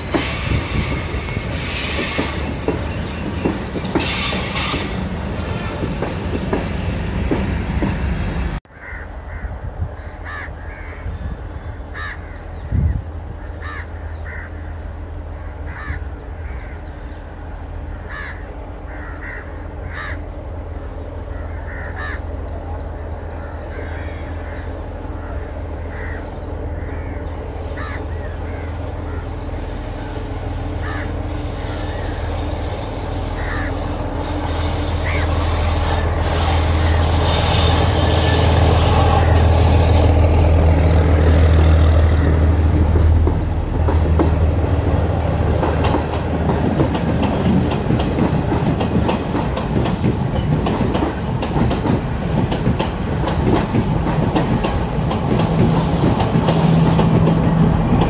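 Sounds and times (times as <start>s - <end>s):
train engine drone: 0.0s - 58.0s.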